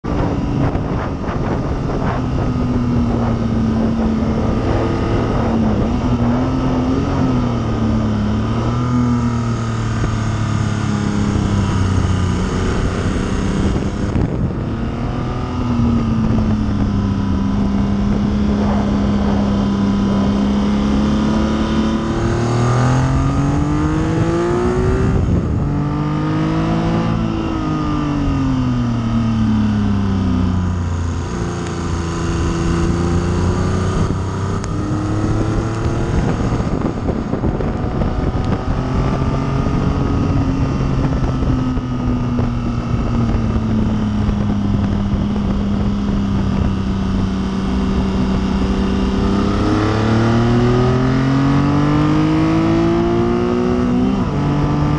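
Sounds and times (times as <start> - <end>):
motorcycle engine at speed: 0.0 - 54.9.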